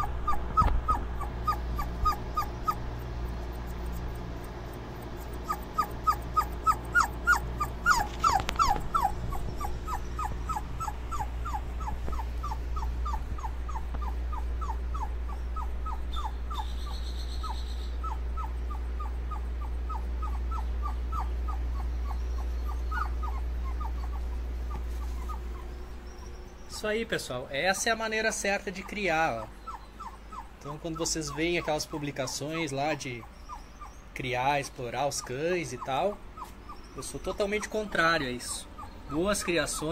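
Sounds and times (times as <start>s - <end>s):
puppy whimpering: 0.0s - 26.8s, 27.7s - 39.9s
electric fan hum: 0.0s - 39.9s.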